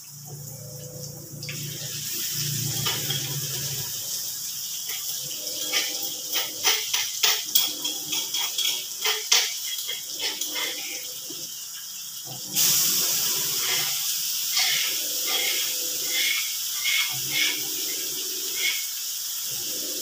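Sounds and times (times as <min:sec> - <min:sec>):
vegetables sizzling in wok: 0:00.0 - 0:20.0.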